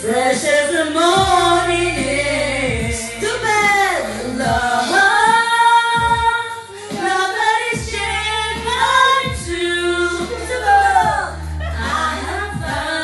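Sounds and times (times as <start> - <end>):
karaoke backing track: 0.0 - 13.0
women singing karaoke: 0.0 - 13.0.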